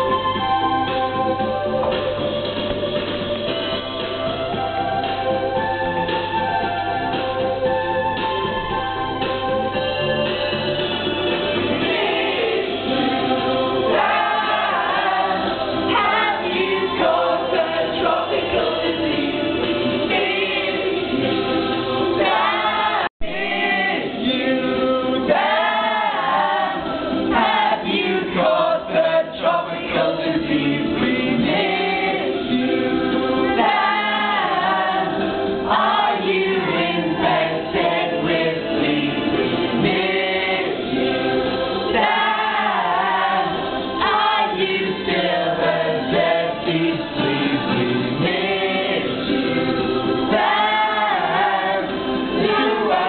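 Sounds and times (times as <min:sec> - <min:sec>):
group singing in chorus: 0:10.1 - 0:53.0.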